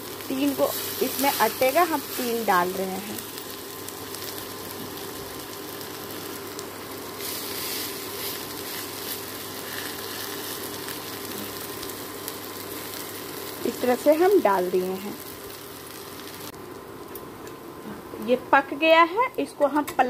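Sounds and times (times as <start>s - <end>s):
batter sizzling in hot oil: 0.0s - 16.6s.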